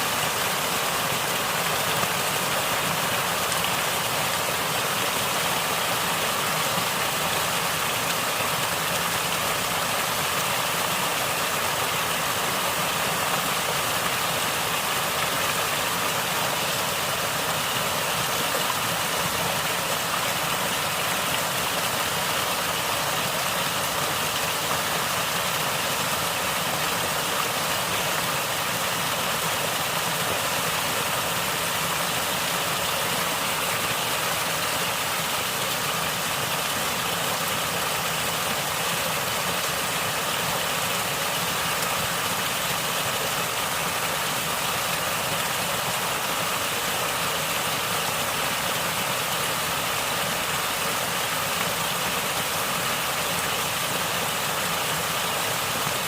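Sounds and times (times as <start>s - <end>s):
stream water flowing and gurgling: 0.0s - 56.0s.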